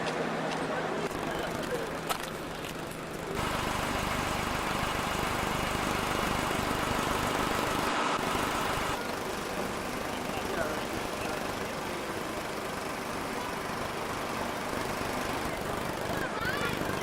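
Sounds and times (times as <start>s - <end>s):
engine running: 1.0s - 17.0s.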